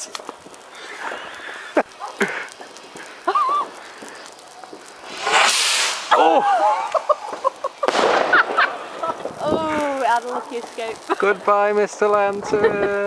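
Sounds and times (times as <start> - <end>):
sharp cracks: 0.0 - 12.5
firework hissing whoosh: 0.0 - 13.0.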